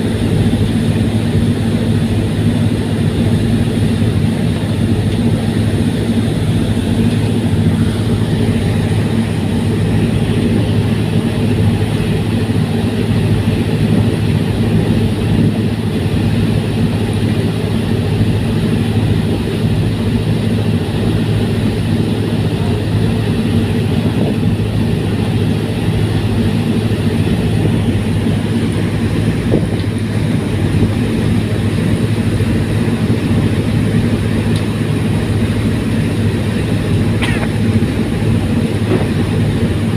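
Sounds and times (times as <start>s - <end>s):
ferry engines droning: 0.0s - 39.9s.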